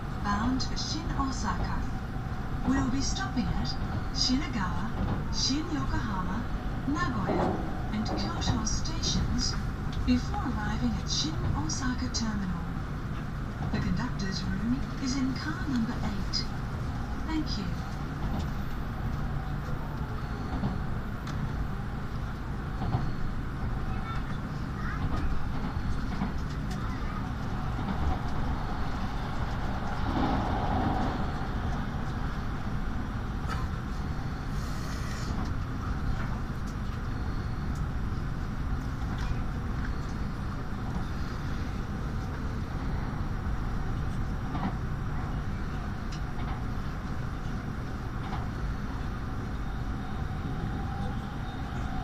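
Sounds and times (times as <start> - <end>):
train cabin low rumble: 0.0 - 52.0.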